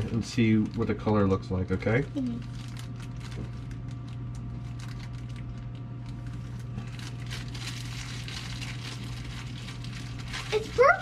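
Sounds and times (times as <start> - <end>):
plastic bag crinkling: 0.0 - 1.3, 1.9 - 11.0
steady low hum: 0.0 - 11.0.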